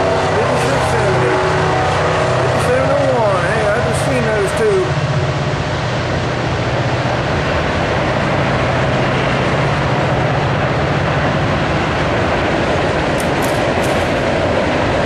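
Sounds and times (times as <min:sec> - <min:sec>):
low hum: 0:00.0 - 0:15.0
steel wheels rumbling on rails: 0:00.0 - 0:15.0.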